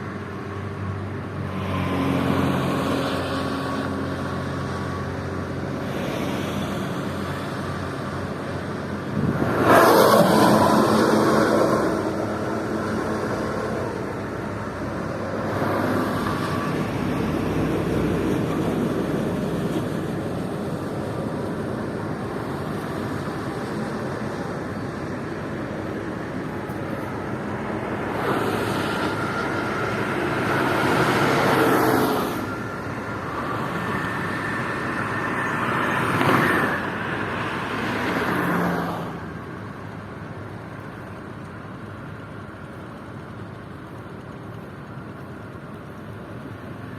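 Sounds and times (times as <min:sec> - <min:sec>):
traffic hum of tyres and engines: 0:00.0 - 0:46.9
vehicles passing by: 0:00.0 - 0:46.9.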